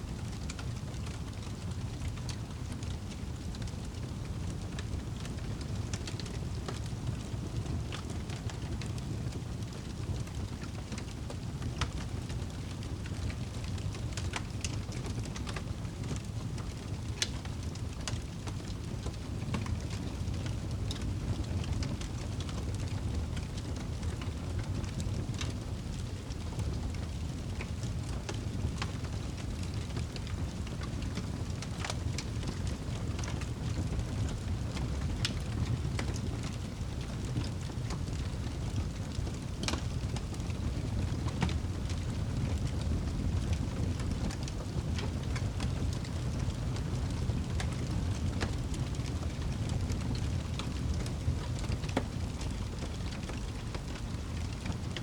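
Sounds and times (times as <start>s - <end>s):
fire flame rumble: 0.0s - 55.0s
wood crackling and popping: 0.1s - 55.0s.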